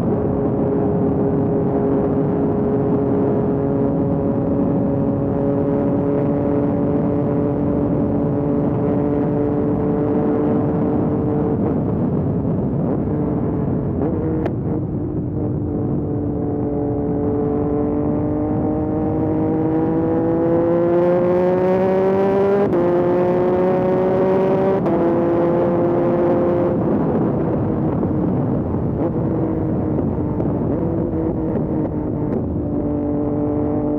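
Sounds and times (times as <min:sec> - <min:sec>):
motorcycle engine accelerating: 0:00.0 - 0:33.9
wind rush: 0:00.0 - 0:33.9.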